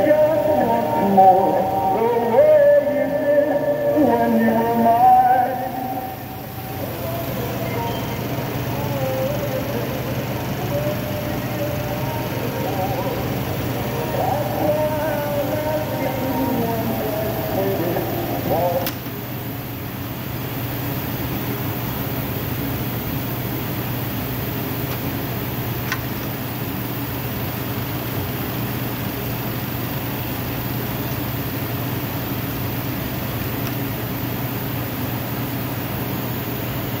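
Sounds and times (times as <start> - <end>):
tape recorder mechanical hum: 0.0 - 37.0.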